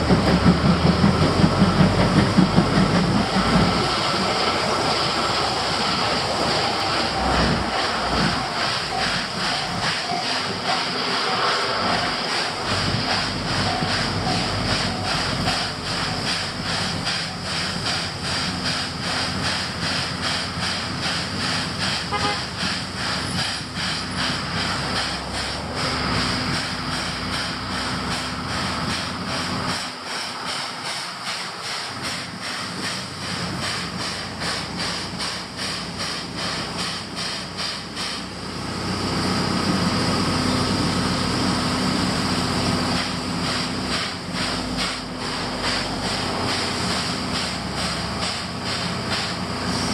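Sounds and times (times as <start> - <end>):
steam locomotive exhaust chuffs: 0.0 - 49.9.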